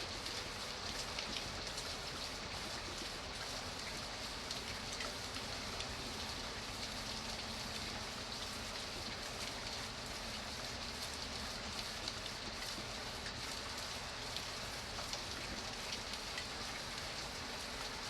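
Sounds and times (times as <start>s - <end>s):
rain patter: 0.0s - 18.0s.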